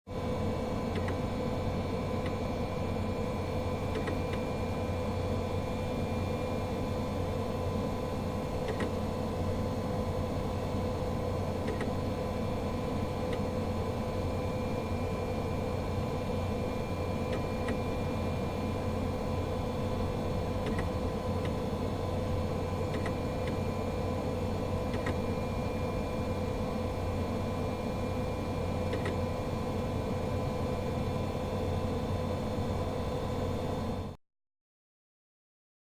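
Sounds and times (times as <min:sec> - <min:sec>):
computer hum with whining tone: 0:00.1 - 0:34.2.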